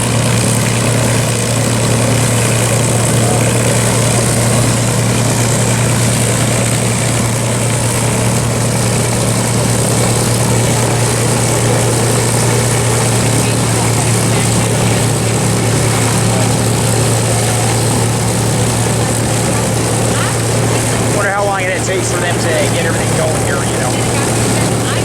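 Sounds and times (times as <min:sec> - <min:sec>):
propeller plane engine idling: 0:00.0 - 0:25.0.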